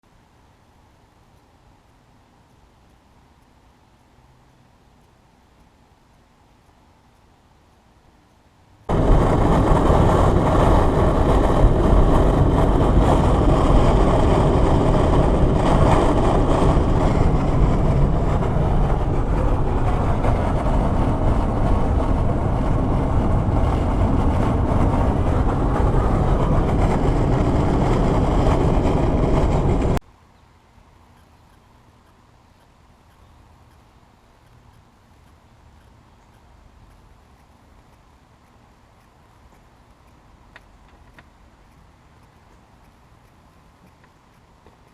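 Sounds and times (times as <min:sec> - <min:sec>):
wind and road noise in car cabin: 0:00.0 - 0:44.9.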